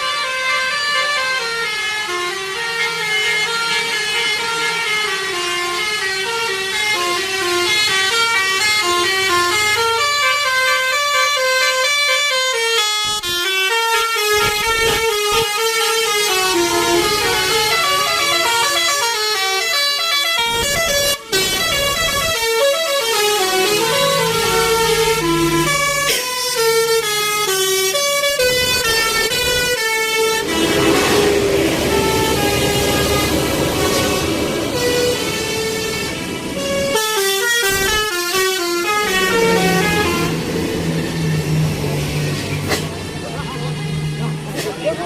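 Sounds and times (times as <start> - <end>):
bus horn playing a fast melody: 0.0 - 41.5.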